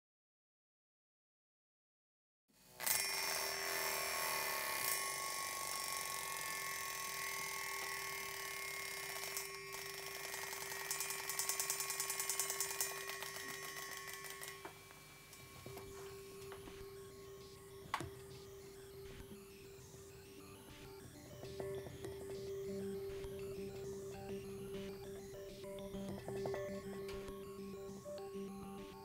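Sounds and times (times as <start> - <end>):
bell cymbal metallic buzz: 2.8 - 29.0.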